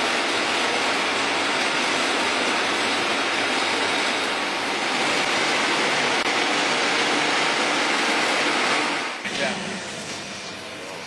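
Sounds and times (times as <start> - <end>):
plant machinery running: 0.0 - 11.0.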